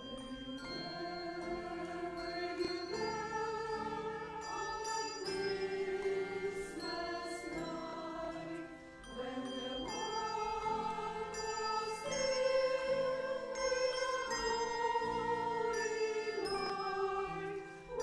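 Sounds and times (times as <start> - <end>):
choir singing a hymn: 0.0 - 18.0
handbells ringing: 0.0 - 18.0.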